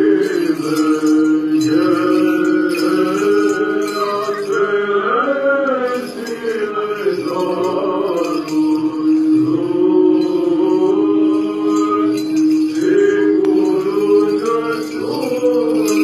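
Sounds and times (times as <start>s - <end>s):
voices chanting a melody: 0.0s - 16.0s.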